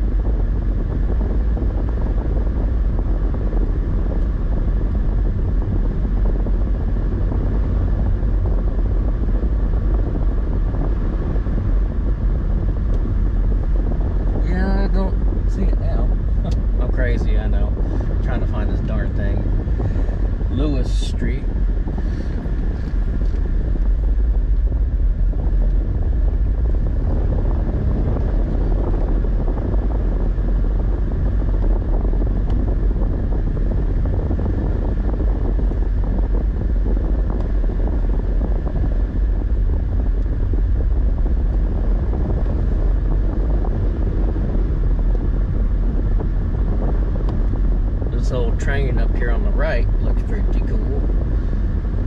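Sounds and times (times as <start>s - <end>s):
vehicle driving rumble: 0.0s - 52.0s
wind buffeting microphone: 0.0s - 52.0s.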